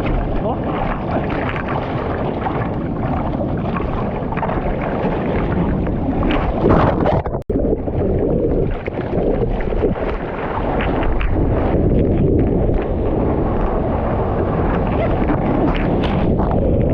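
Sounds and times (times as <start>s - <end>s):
surf rushing and splashing: 0.0s - 16.9s
wind buffeting microphone: 0.0s - 16.9s.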